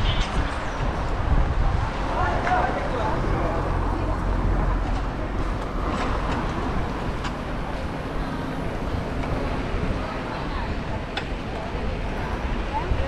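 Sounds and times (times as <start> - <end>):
cars going by: 0.0 - 13.0.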